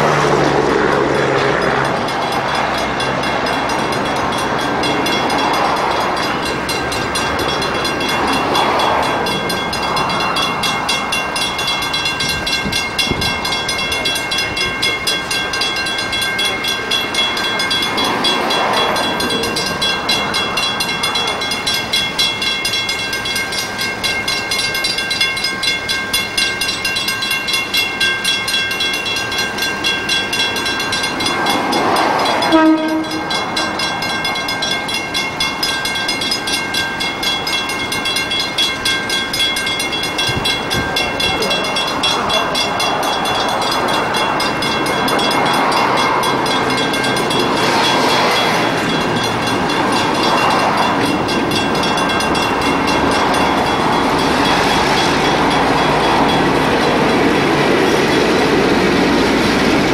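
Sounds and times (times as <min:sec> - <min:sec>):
diesel locomotive engine running: 0:00.0 - 0:59.9
train wheel noise: 0:00.0 - 0:59.9.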